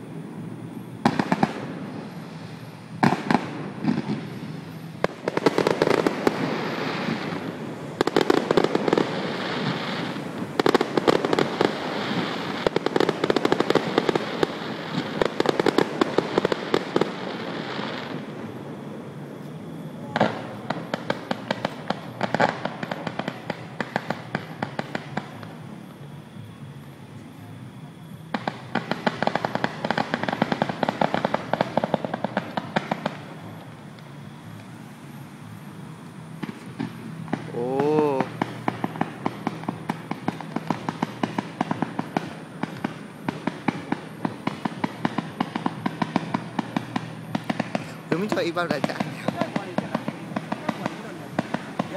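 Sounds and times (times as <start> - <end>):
fireworks crackling bangs: 0.0 - 51.9.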